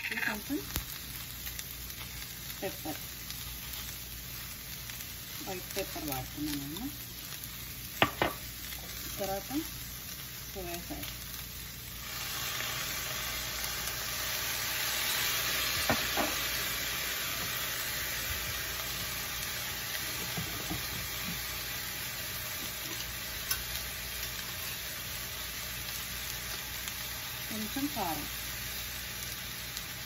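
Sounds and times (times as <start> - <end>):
noodles sizzling in a wok: 0.0 - 30.0.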